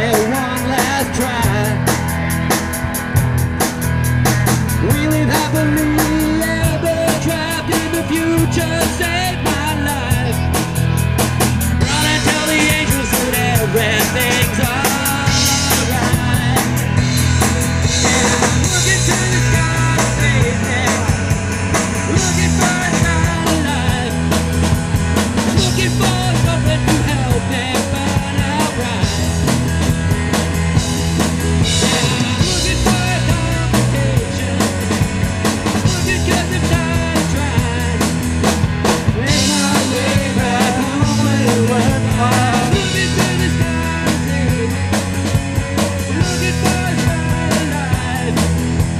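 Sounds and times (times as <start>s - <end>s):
drum kit beat: 0.0s - 48.9s
rock band playing: 0.0s - 48.9s.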